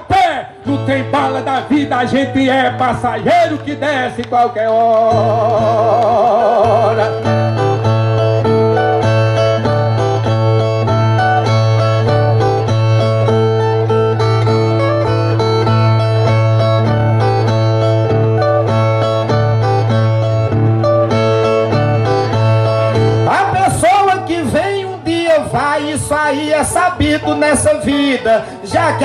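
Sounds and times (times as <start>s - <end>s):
violas playing plucked notes: 0.5s - 29.0s.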